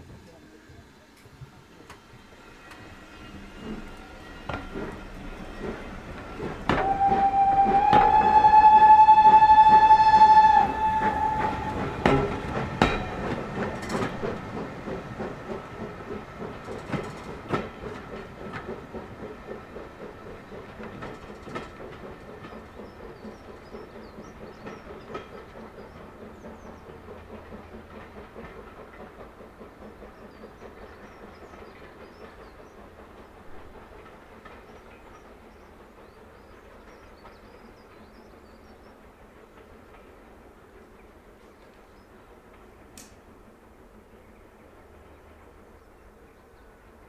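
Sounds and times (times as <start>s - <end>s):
wheels clicking over rail joints: 1.1s - 46.2s
steam train rhythmic beat: 2.1s - 41.5s.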